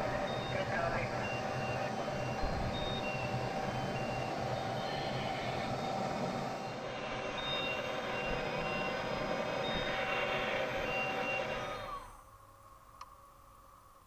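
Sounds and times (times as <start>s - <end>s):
machinery hum and hiss: 0.0s - 14.0s.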